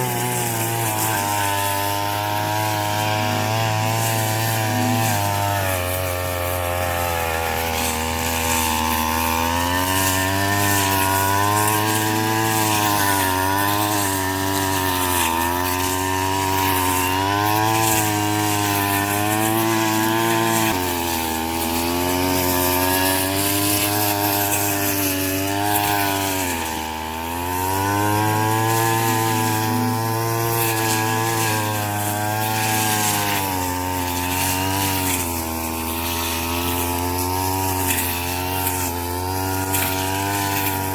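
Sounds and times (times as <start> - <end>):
small two-stroke engine under load: 0.0 - 40.9.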